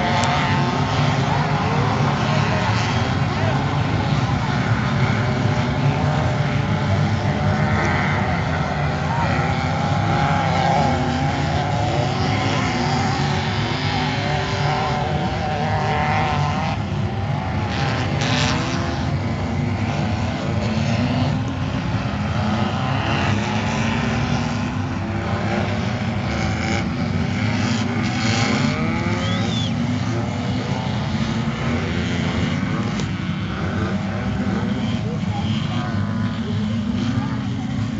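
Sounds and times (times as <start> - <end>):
race engines revving: 0.0 - 37.9.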